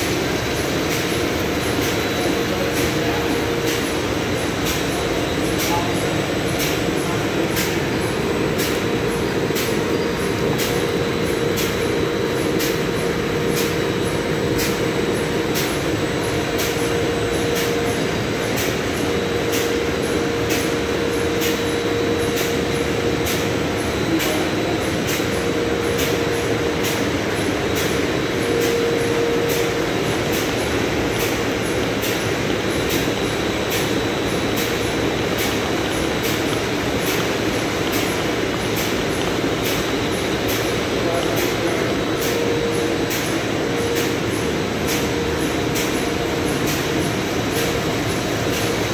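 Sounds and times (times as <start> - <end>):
machine noise: 0.0 - 48.9
machine whine: 0.0 - 48.9.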